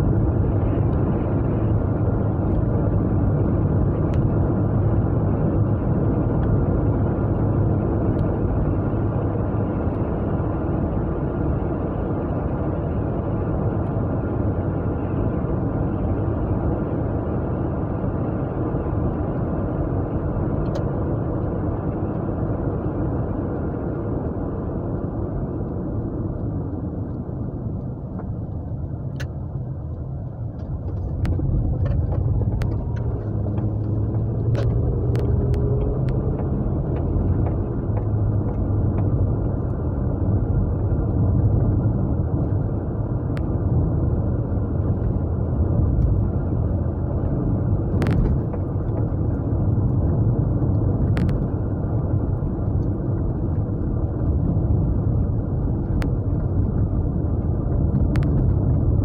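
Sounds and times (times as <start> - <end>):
car engine running: 0.0 - 59.0
road and tyre rumble: 0.0 - 59.0.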